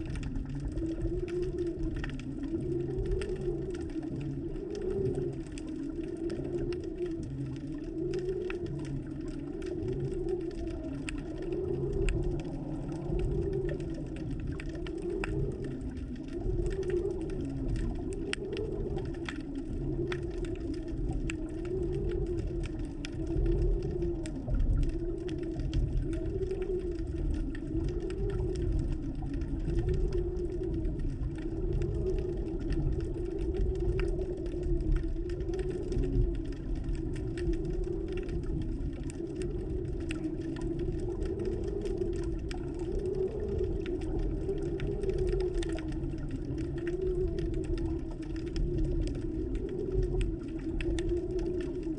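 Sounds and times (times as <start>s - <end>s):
faint crackling clicks: 0.0s - 51.9s
low wavering underwater hum: 0.0s - 51.9s.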